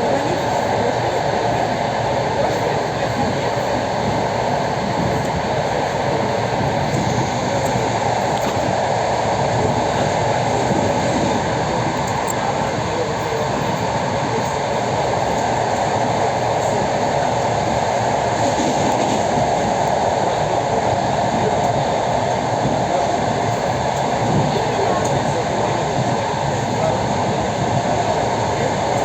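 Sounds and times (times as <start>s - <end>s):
train rumbling from inside: 0.0s - 29.0s.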